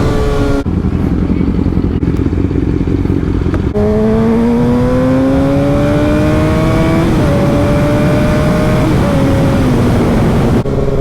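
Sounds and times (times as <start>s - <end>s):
motorcycle engine accelerating: 0.0s - 11.0s
wind noise: 0.0s - 11.0s.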